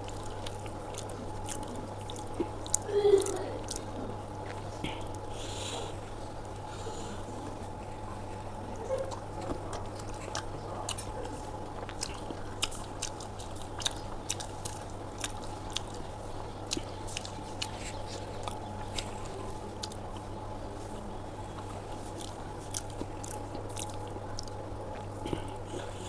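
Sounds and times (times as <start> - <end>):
person chewing with wet smacking: 0.0 - 26.0
steady low hum: 0.0 - 26.0.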